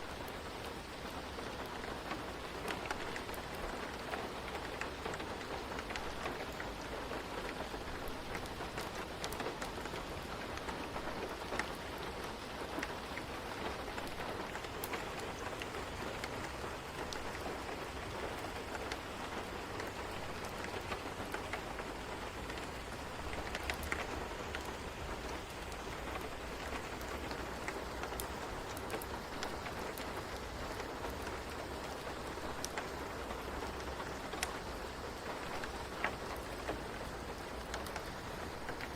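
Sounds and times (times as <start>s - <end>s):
rain hissing: 0.0s - 38.9s
small ticks and crackles: 0.0s - 38.9s.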